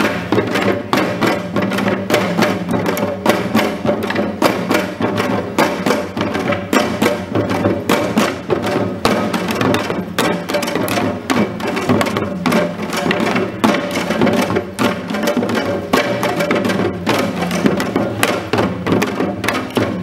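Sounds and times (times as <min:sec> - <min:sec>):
hourglass drums fast rhythm: 0:00.0 - 0:20.0.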